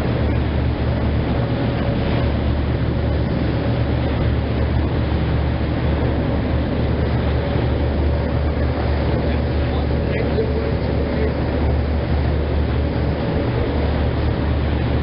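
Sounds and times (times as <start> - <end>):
boat engine droning: 0.0 - 15.0
water rushing along hull: 0.0 - 15.0.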